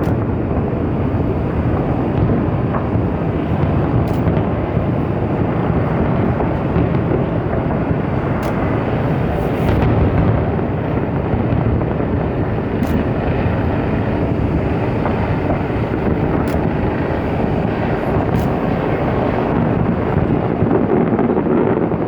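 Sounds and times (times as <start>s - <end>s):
fireworks low rumble: 0.0s - 22.0s.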